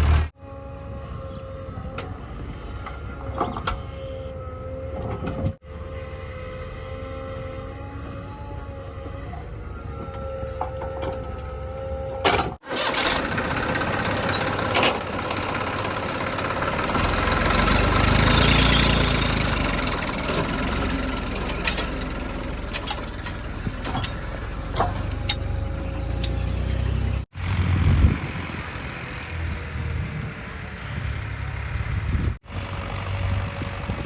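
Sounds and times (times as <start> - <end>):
diesel engine of digger: 0.0 - 34.0.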